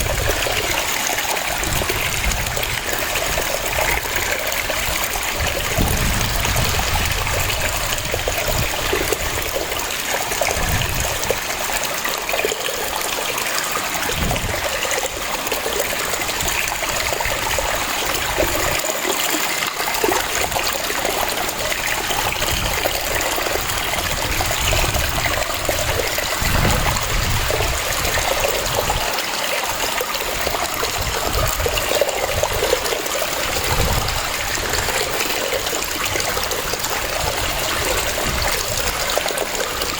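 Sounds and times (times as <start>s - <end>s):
waterfall splashing rush: 0.0s - 39.9s.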